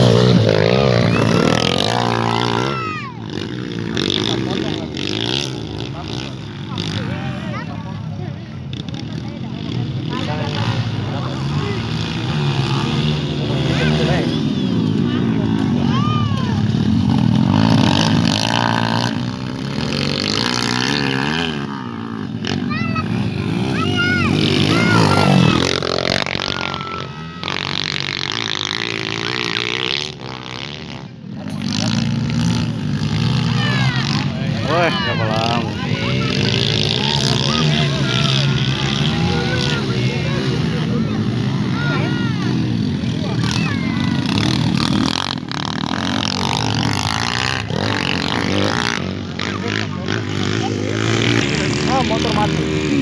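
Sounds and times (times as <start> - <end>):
dirt bike engines revving: 0.0 - 53.0.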